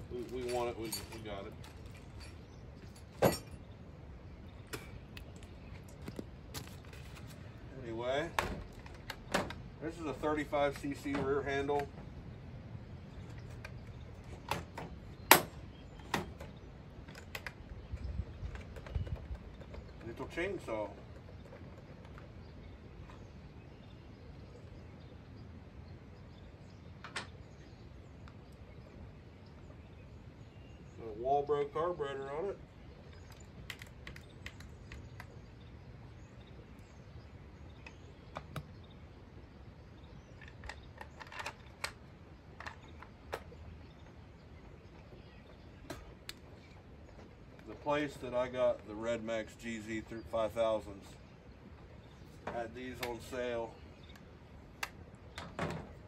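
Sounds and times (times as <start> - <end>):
faint low outdoor rumble: 0.0 - 56.0.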